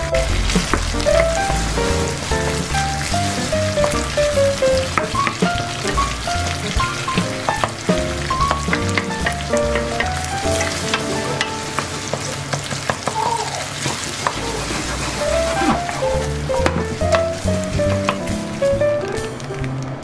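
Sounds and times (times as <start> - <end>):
background music: 0.0 - 12.6, 14.4 - 20.0
meat sizzling in frying pan: 0.0 - 20.0
wooden spatula stirring: 0.2 - 19.9.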